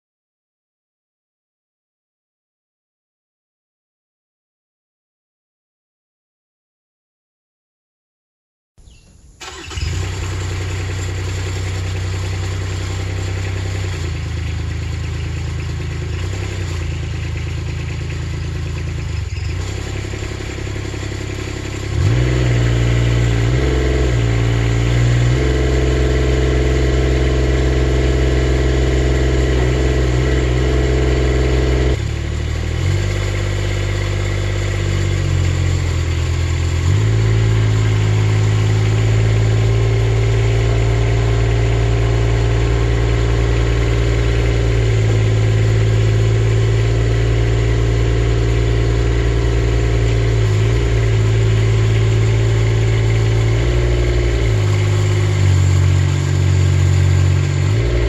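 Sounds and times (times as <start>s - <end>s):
engine starting and running: 9.4s - 58.0s.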